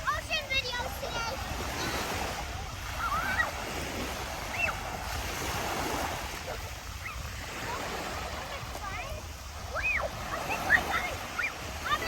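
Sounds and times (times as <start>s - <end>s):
surf washing on a beach: 0.0s - 12.0s
wind buffeting microphone: 0.0s - 12.0s.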